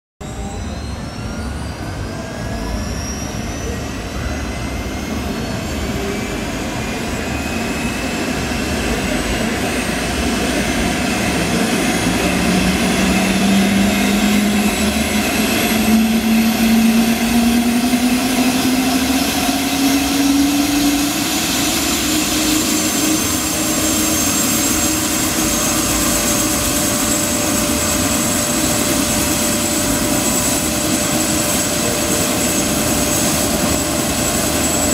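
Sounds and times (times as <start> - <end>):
helicopter rotor: 0.2 - 34.9
helicopter turbine whine: 0.2 - 34.9.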